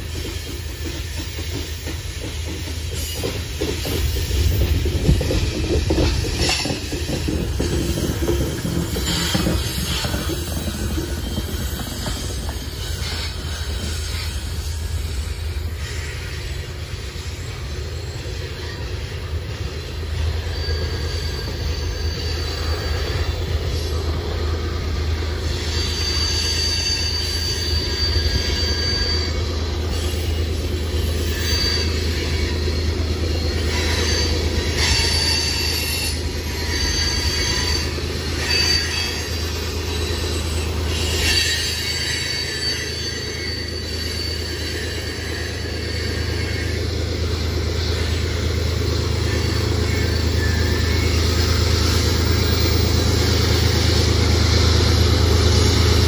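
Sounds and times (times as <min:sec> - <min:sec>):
diesel locomotive drone: 0:00.0 - 0:56.0
freight train cars rolling past: 0:00.0 - 0:56.0
high-pitched wheel squeal: 0:00.0 - 0:56.0.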